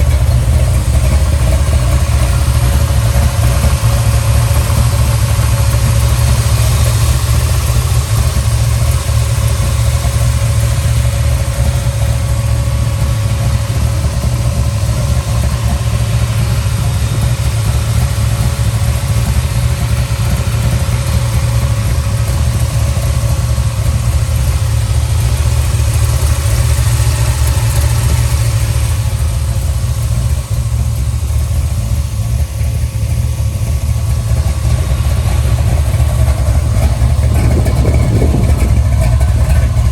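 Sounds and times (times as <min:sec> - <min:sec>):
car engine idling with deep rumble: 0:00.0 - 0:39.9.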